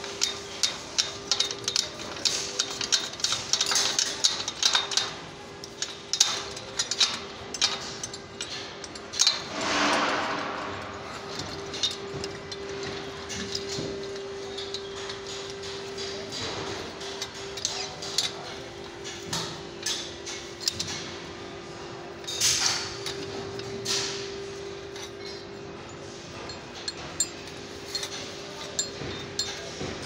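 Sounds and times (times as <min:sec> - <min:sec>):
spanner knocking on metal: 0:00.0 - 0:21.1, 0:26.3 - 0:30.0.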